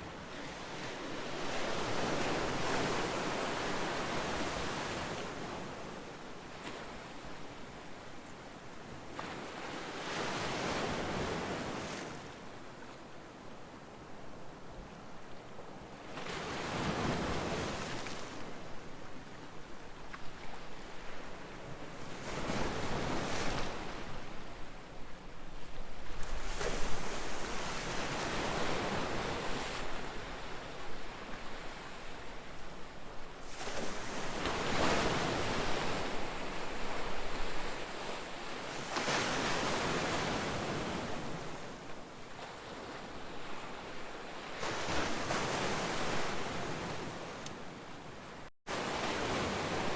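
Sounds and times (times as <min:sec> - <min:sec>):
waves breaking and washing in: 0:00.0 - 0:49.9.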